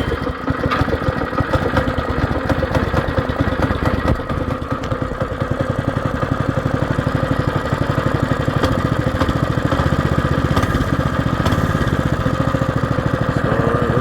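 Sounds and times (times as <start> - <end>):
minibike engine idling: 0.0 - 14.0.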